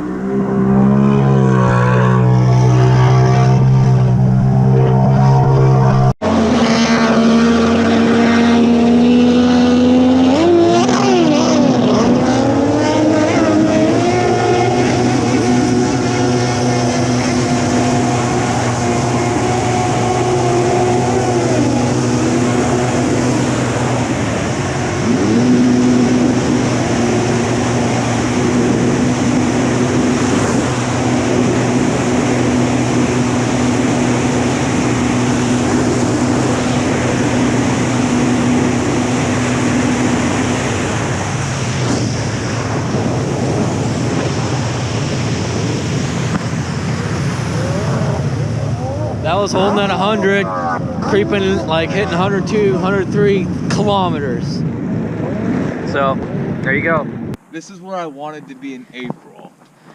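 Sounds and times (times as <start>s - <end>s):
jet ski engine running hard: 0.0s - 59.9s.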